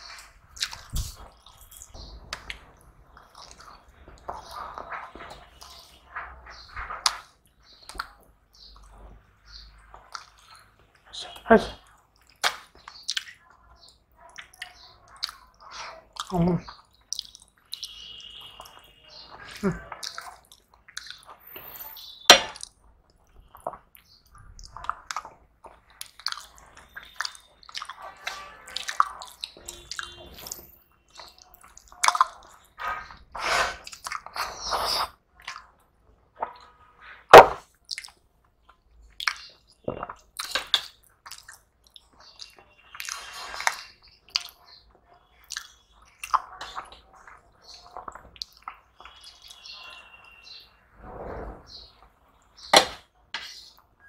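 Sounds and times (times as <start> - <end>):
people chewing: 0.0 - 11.1, 11.8 - 50.4.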